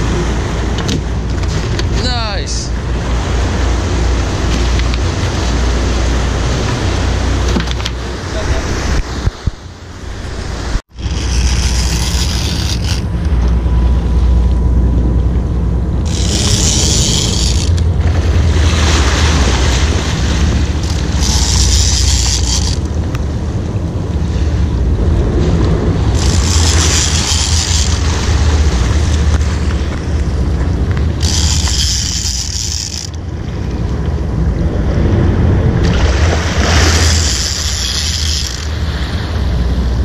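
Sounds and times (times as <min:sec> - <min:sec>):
boat engine low rumble: 0:00.0 - 0:40.0
wind buffeting microphone: 0:00.0 - 0:40.0.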